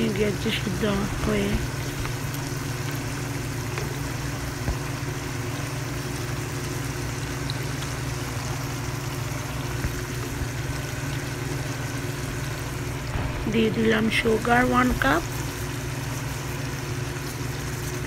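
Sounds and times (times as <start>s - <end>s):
food sizzling in hot oil: 0.0s - 18.0s
steady low hum: 0.0s - 18.0s.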